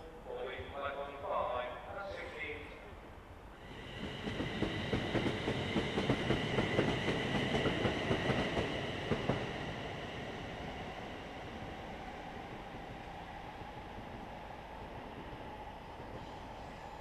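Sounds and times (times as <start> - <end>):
train high whine: 0.0 - 17.0.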